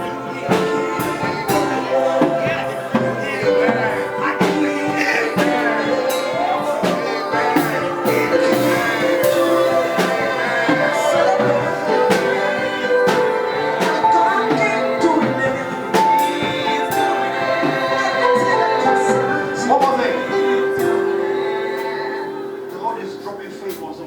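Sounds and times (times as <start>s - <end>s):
drum and cymbal hits: 0.0s - 21.9s
sustained keyboard chords: 0.0s - 24.0s.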